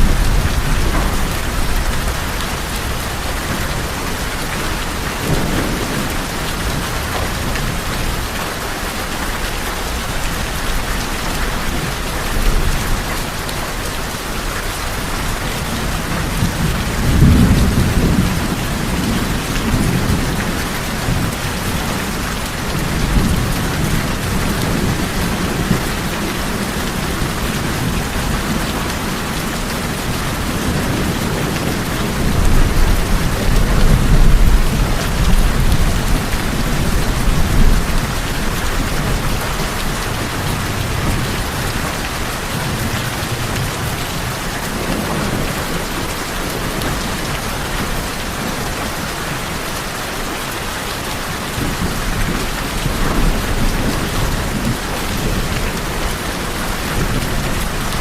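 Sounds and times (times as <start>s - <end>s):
low rumble of thunder: 0.0s - 8.9s, 9.8s - 48.8s
heavy rain on tin roofs: 0.0s - 58.0s.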